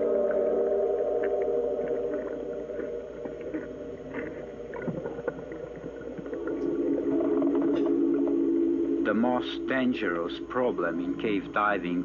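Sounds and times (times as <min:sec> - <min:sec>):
synthesizer drone: 0:00.0 - 0:12.0.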